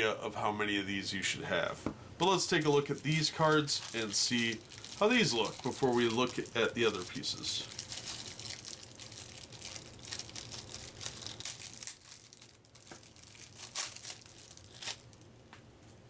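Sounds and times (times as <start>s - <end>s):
plastic wrapping crinkling and tearing: 2.2s - 15.3s.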